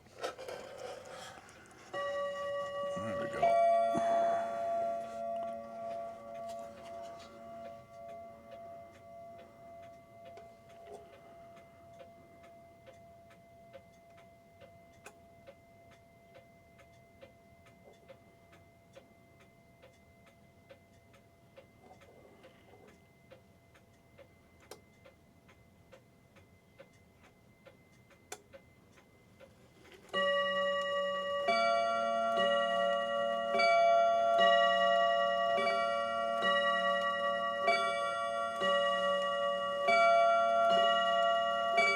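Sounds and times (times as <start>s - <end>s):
clock chime melody: 0.2s - 25.1s, 30.1s - 41.9s
clock ticking: 0.2s - 29.6s, 30.2s - 41.9s.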